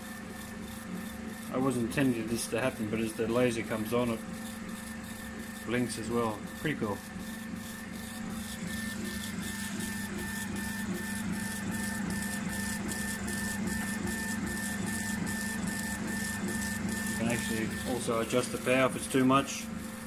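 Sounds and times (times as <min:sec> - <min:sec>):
laser head whine and tick: 0:00.0 - 0:20.0
steady low hum: 0:00.7 - 0:20.0.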